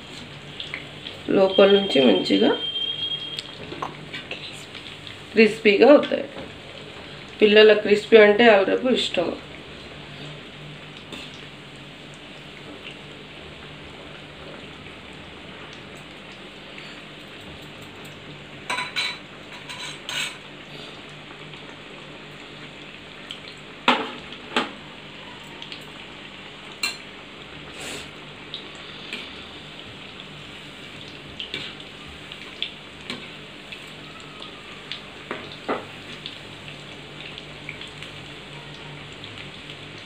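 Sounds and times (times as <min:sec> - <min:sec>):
oil sizzling and bubbling: 0:00.0 - 0:40.0.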